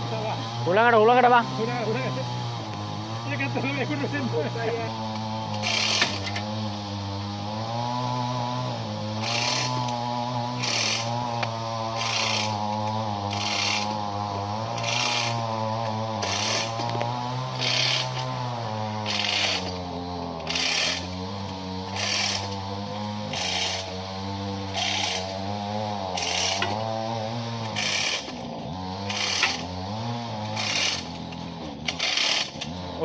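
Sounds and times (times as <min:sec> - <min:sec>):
engine running: 0:00.0 - 0:33.0.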